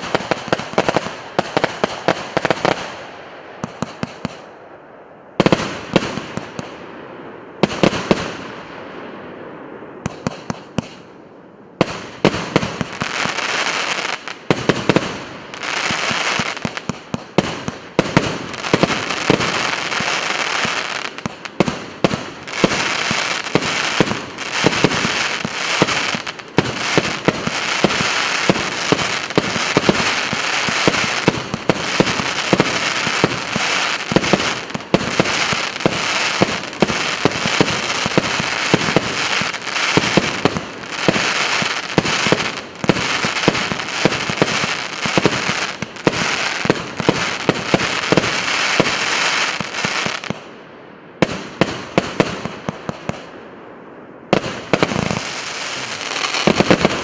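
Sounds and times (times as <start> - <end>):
firework hiss and crackle: 0.0 - 4.5, 11.8 - 50.4, 54.3 - 57.0
fireworks shots and bursts: 0.0 - 50.5, 51.2 - 53.4, 54.2 - 57.0.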